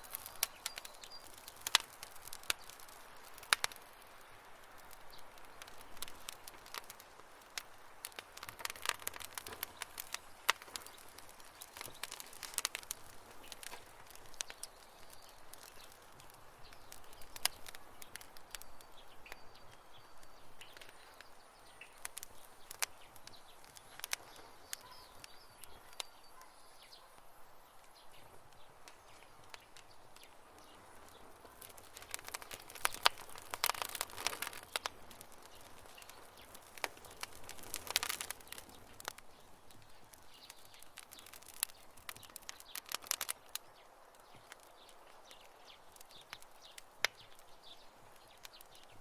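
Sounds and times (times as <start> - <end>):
campfire crackling and popping: 0.0 - 49.0.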